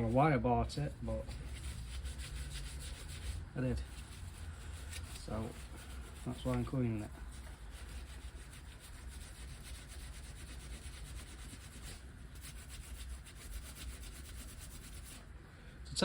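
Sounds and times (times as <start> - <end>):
brush scrubbing engine casing: 0.0 - 15.3.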